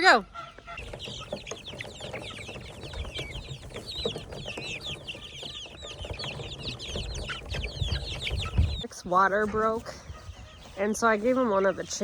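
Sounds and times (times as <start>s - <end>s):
chickens clucking: 0.0s - 12.0s
chicks peeping: 0.0s - 12.0s.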